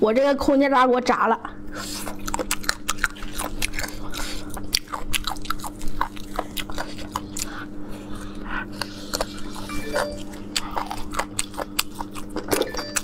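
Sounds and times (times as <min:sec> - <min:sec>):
steady low hum: 0:00.0 - 0:13.0
crunchy chewing of chicken bones: 0:01.7 - 0:13.0.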